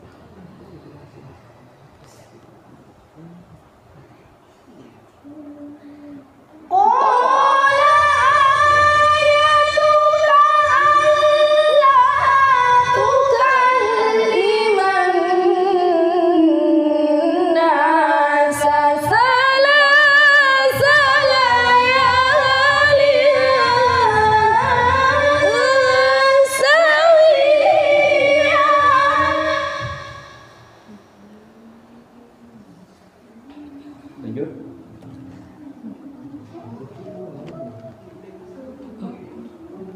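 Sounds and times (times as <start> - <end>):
person reciting melodically: 5.2 - 39.9.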